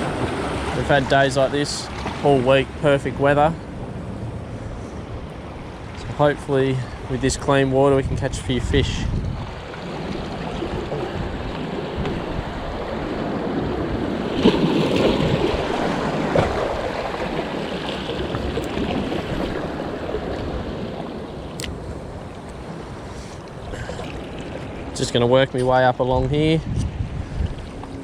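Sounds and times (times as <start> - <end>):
sea washing against rocky shore: 0.0 - 3.6, 8.4 - 28.0
wind rumbling on microphone: 1.8 - 28.0.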